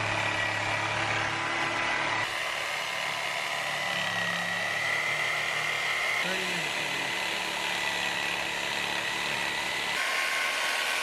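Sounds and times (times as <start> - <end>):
electric power saw whining: 0.0 - 11.0.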